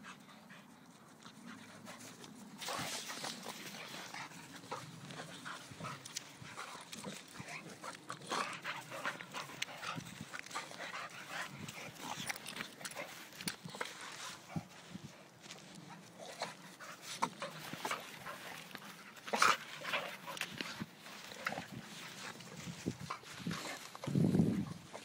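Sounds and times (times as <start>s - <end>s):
dogs play-fighting: 0.0s - 25.0s.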